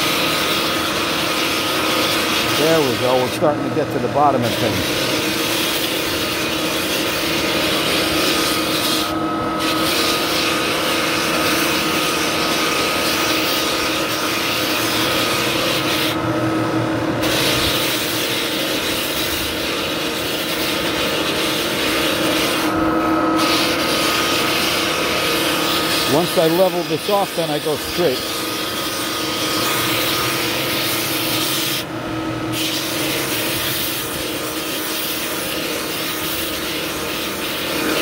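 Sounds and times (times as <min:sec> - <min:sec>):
floor sander motor whine: 0:00.0 - 0:38.0
sander drum grinding wood: 0:00.0 - 0:38.0.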